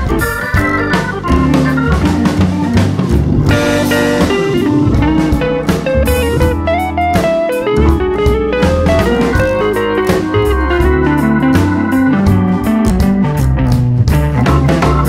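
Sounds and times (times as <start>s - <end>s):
bluesy guitar melody: 0.0s - 15.0s
drum beat: 0.0s - 15.0s.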